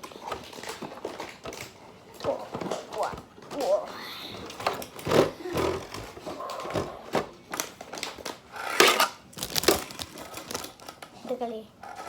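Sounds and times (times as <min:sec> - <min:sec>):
small plastic pieces clicking and knocking: 0:00.0 - 0:03.8, 0:04.5 - 0:11.2.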